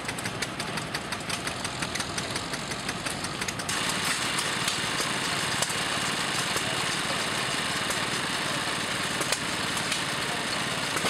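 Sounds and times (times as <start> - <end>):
engines clattering with hiss: 0.0 - 11.0
old engines ticking: 0.0 - 11.0.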